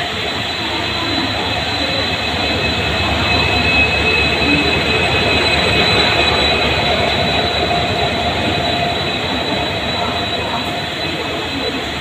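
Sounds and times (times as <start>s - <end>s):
diesel locomotive engine running: 0.0s - 12.0s
steady high whine: 0.0s - 12.0s
wheels rolling on rails: 0.0s - 12.0s.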